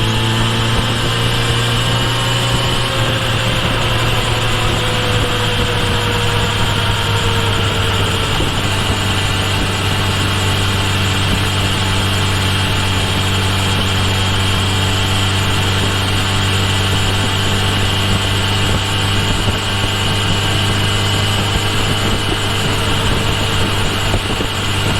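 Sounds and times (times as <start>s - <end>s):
motorcycle engine running at low revs: 0.0s - 24.9s.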